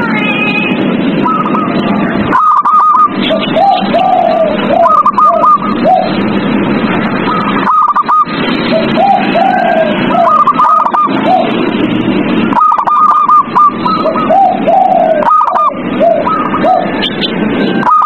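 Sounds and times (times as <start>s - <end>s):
doves cooing: 1.1s - 18.0s.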